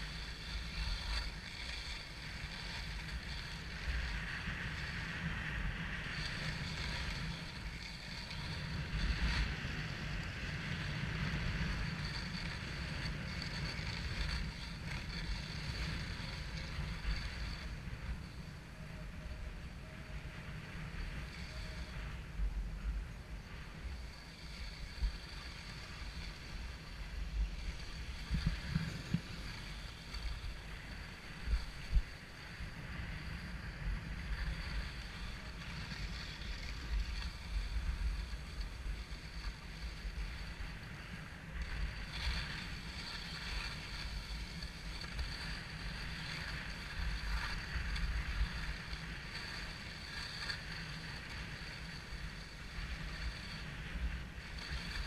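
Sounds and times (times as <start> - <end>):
skis scraping over snow: 0.0 - 55.0
wind rumble on microphone: 0.0 - 55.0.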